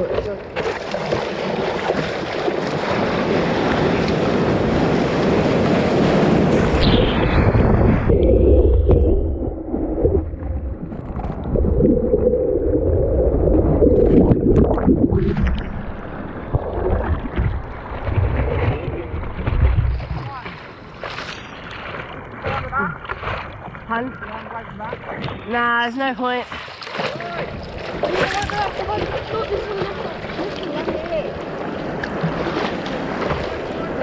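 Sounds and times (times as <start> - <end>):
water splashes: 0.0 - 34.0
whitewater rushing and splashing: 0.0 - 34.0
wind: 0.0 - 34.0.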